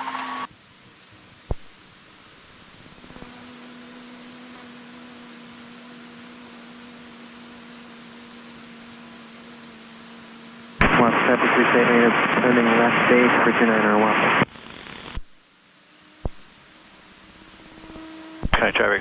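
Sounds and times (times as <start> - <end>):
intercom hum and hiss: 0.1 - 19.0.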